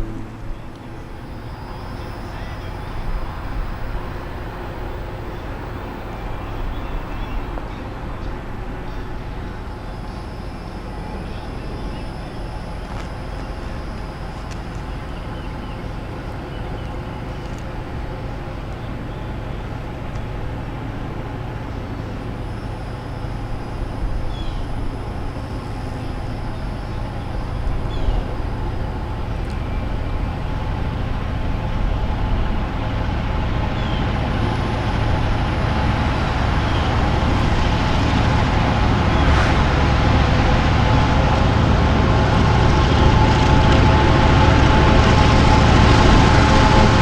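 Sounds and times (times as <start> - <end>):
diesel locomotive engine rumbling: 0.0 - 47.0.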